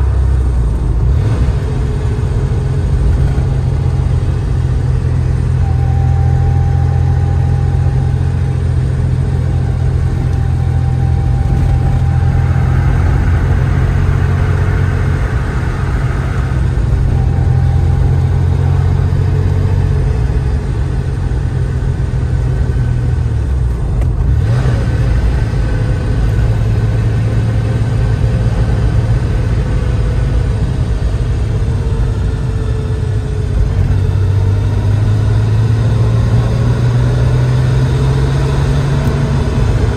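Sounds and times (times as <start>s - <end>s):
car engine running: 0.0s - 39.9s
road and wind noise: 0.0s - 39.9s.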